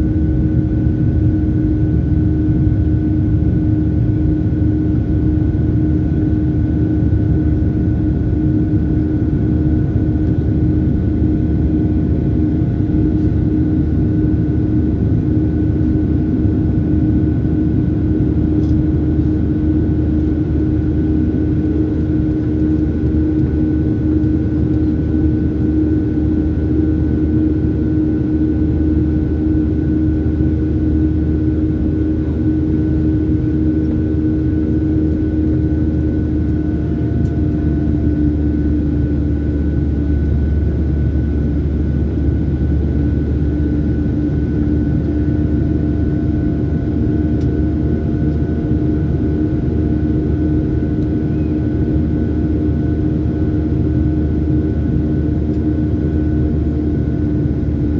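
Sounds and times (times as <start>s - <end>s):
jet engines from inside cabin: 0.0s - 57.9s.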